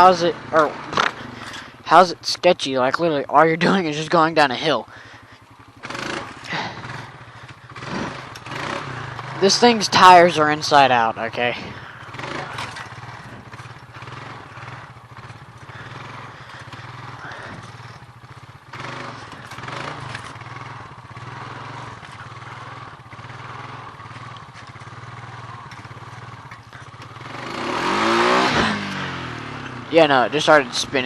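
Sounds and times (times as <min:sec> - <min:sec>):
quad bike engine running: 0:00.0 - 0:31.0
tires spinning: 0:00.0 - 0:31.0.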